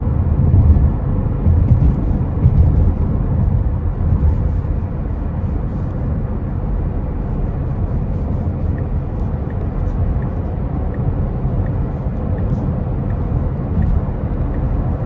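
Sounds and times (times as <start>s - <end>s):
tyre and road rumble: 0.0s - 15.0s.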